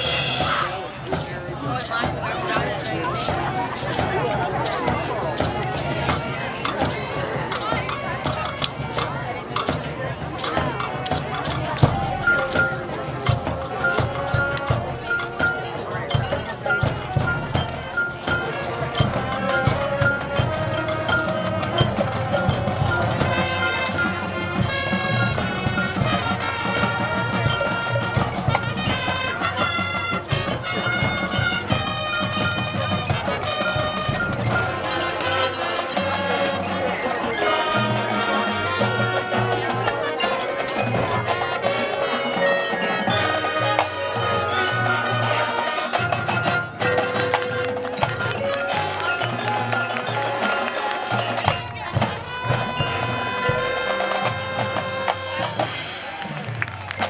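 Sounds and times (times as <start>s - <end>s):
wind instrument chords: 0.0s - 56.6s
drumline and percussion beat: 0.0s - 57.0s.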